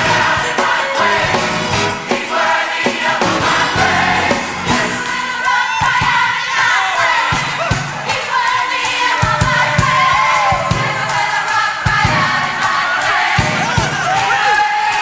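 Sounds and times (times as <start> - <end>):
band playing: 0.0 - 15.0
drums beating: 0.0 - 15.0
group of voices singing gospel: 0.0 - 15.0.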